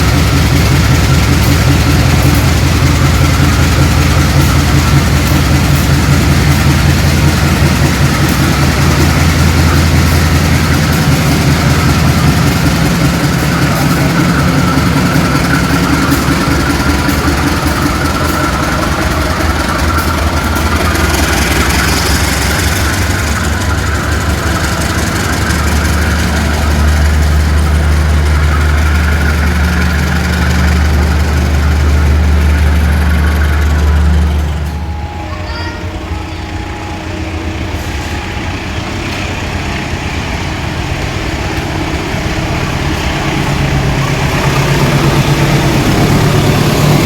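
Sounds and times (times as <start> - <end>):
locomotive engine running: 0.0 - 47.0.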